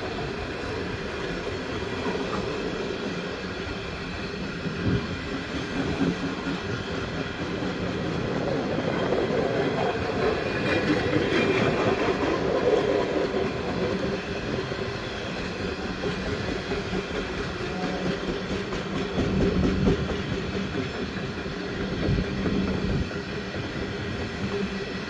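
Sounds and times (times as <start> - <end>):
train wheels clattering on rails: 0.0 - 25.0.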